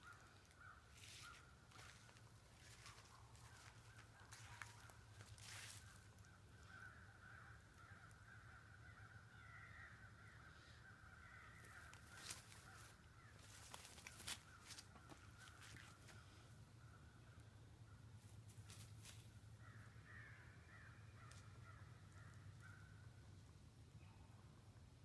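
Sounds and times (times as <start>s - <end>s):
wavering bird cry: 0.0s - 18.3s, 19.5s - 23.3s.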